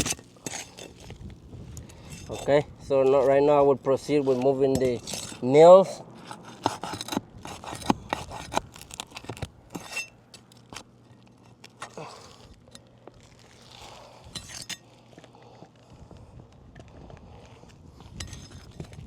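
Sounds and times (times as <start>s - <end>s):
pry bar scraping shingles: 0.0s - 15.7s.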